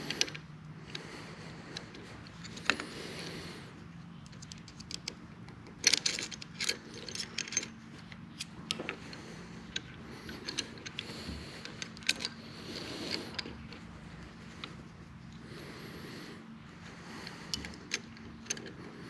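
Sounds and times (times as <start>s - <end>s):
steel parts clicking and clinking: 0.0s - 1.0s, 1.7s - 3.2s, 4.2s - 15.4s, 17.1s - 19.0s.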